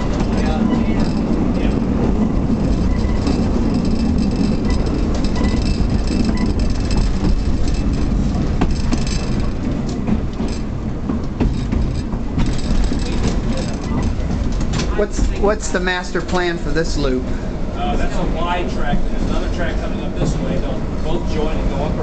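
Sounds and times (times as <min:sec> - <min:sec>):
streetcar wheels and motors rumbling: 0:00.0 - 0:22.0
wheels clicking on rails: 0:00.0 - 0:22.0.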